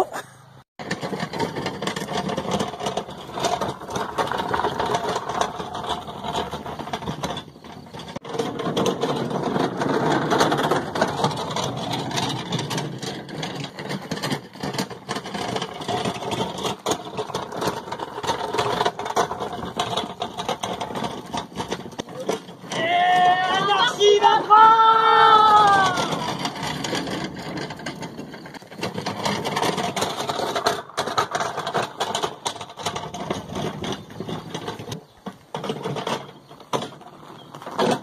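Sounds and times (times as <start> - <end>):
wheelbarrow rattling over gravel: 0.8 - 38.0.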